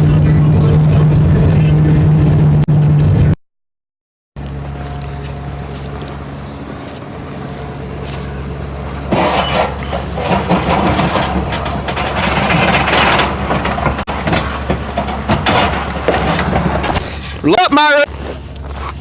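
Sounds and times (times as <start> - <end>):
vehicle engine idling: 0.0 - 3.3, 4.4 - 19.0.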